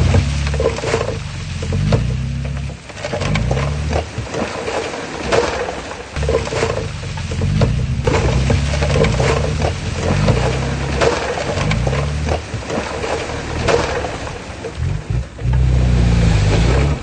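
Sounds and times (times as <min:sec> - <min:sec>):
bulldozer diesel engine: 0:00.0 - 0:04.6, 0:05.6 - 0:17.0.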